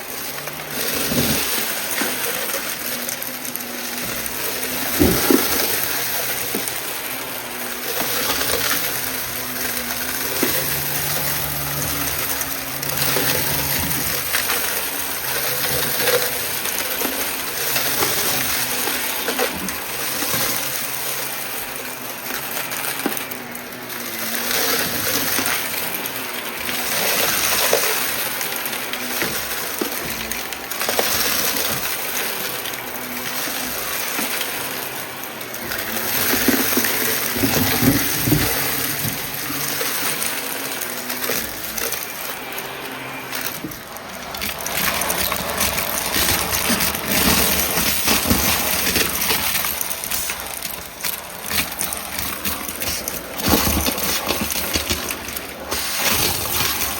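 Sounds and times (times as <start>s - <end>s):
debris crunching and rattling: 0.0s - 56.9s
vacuum cleaner running: 0.0s - 56.9s.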